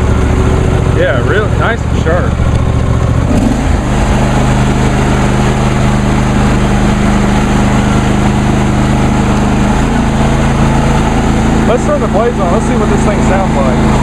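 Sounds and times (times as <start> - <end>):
lawn tractor engine running: 0.0 - 14.0.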